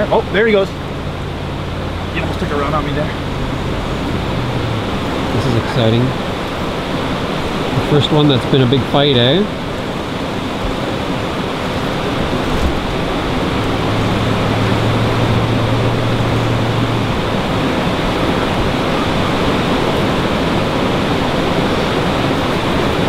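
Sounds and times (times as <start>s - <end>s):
low steady hum: 0.0s - 19.3s
river current rushing: 0.0s - 23.0s.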